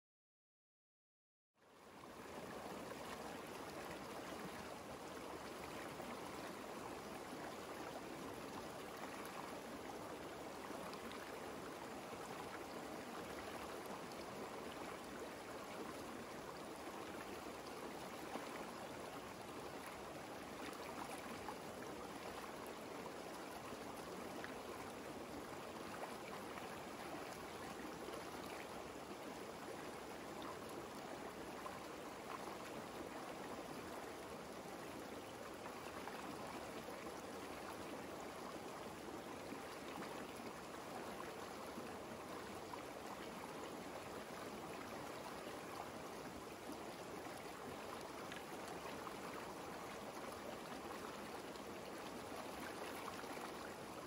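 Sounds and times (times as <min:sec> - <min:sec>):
river water flowing: 0:01.6 - 0:54.0.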